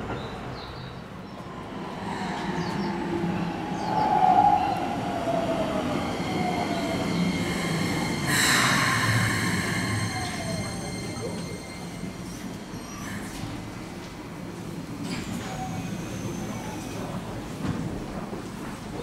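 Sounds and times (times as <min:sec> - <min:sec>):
train cars rumbling: 0:00.0 - 0:19.0.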